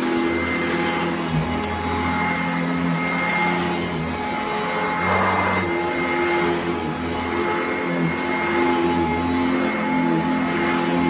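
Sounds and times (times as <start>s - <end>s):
upright vacuum on carpet: 0.0s - 11.0s.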